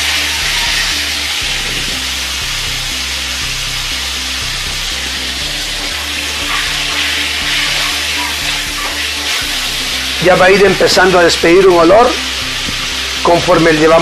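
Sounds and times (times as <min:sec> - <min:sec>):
background music with low bass: 0:00.0 - 0:14.0
meat sizzling in hot oil: 0:00.0 - 0:14.0.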